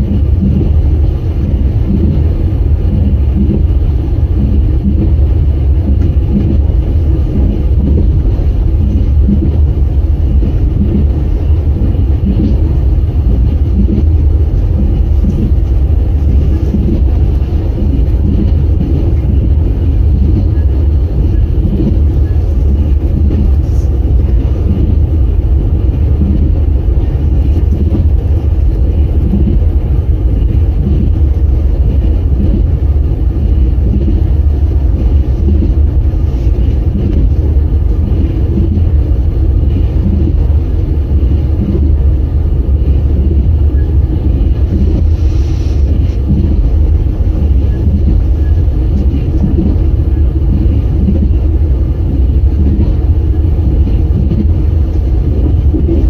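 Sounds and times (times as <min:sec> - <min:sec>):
train rumble inside carriage: 0:00.0 - 0:56.0.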